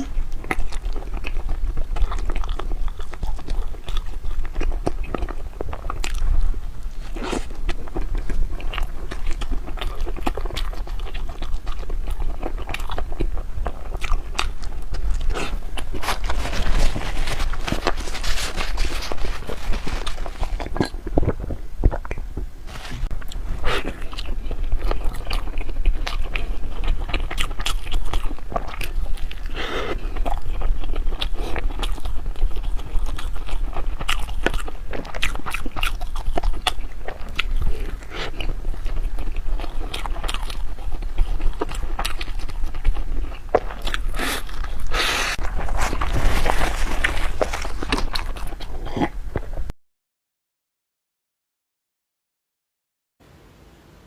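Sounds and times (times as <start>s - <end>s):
biting and chewing dessert: 0.0s - 49.7s.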